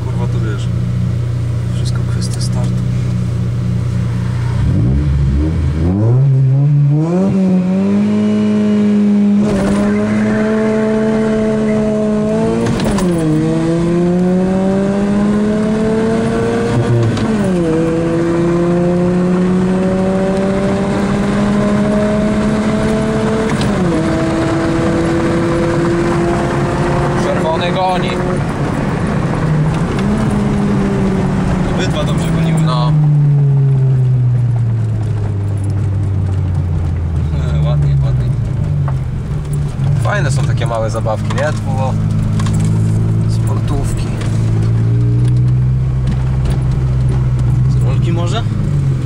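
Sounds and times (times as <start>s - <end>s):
car engine accelerating hard: 0.0s - 49.0s.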